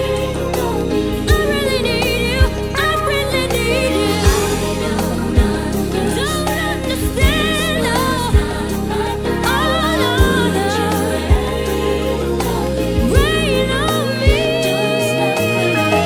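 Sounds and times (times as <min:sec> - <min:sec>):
backing vocal harmonies: 0:00.0 - 0:16.0
bass and kick drum: 0:00.0 - 0:16.0
woman singing with vibrato: 0:00.0 - 0:16.0.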